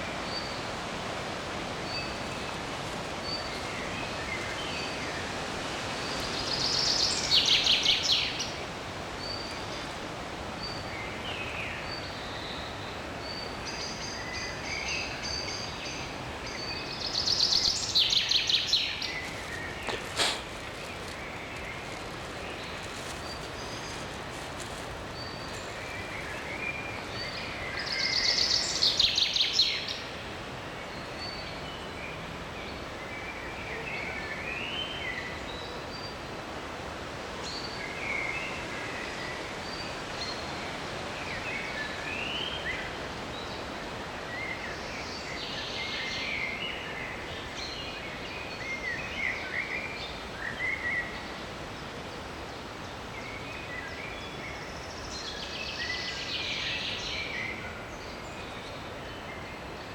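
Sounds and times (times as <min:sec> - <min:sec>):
forest birds chirping: 0:00.0 - 0:59.9
steady background hiss: 0:00.0 - 0:59.9.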